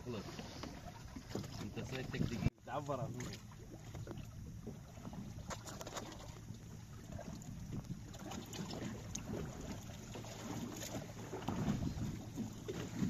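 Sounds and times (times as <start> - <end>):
water lapping against boat hull: 0.0 - 13.0
wind rumbling on microphone: 0.0 - 13.0.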